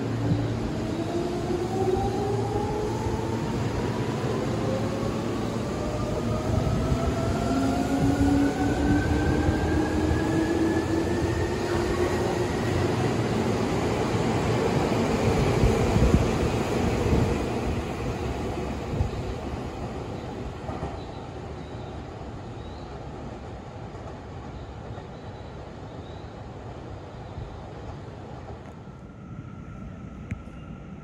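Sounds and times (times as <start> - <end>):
wheels rumbling on rail: 0.0 - 31.0.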